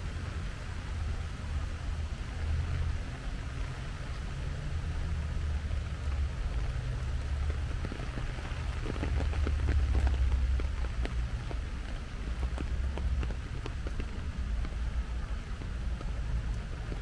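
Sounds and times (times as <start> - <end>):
rain hissing on leaves and pavement: 0.0 - 17.0.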